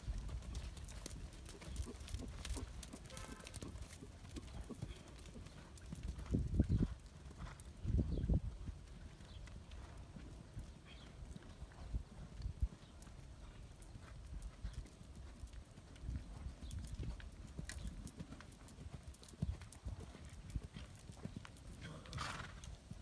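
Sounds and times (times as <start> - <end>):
horse hoofbeats on sand: 0.0 - 22.6.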